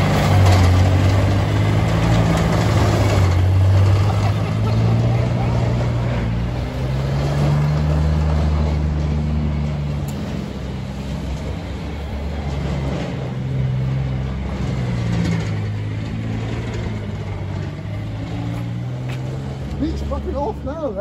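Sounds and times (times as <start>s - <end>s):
tracked vehicle engine running: 0.0s - 21.0s.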